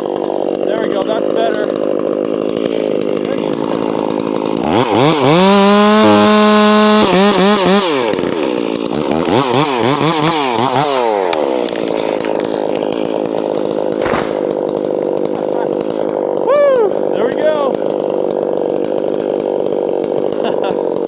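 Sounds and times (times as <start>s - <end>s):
chainsaw revving and idling: 0.0s - 21.0s.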